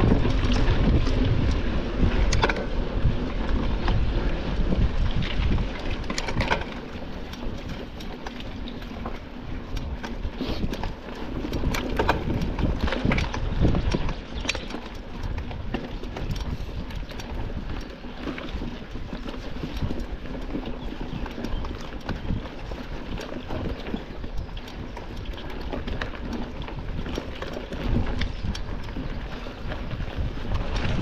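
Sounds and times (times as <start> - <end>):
bike tyre noise: 0.0 - 31.0
rattling clicks from bike: 0.0 - 31.0
wind buffeting microphone: 0.0 - 31.0.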